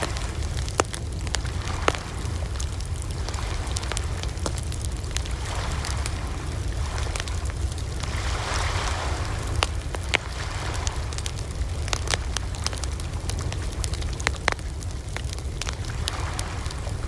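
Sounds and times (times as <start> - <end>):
campfire crackling and popping: 0.0 - 17.0
steady low rumble: 0.0 - 17.0.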